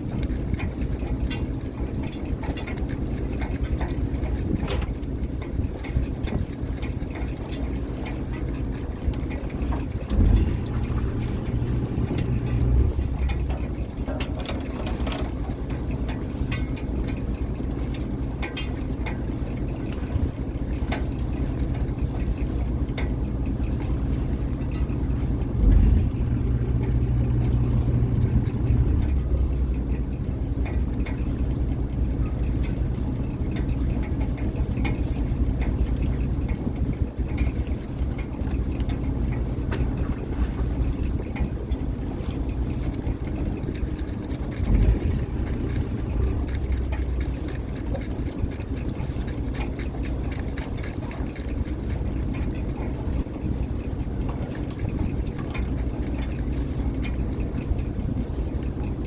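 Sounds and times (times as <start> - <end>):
boat engine running: 0.0 - 59.0
small clicks: 0.0 - 59.0.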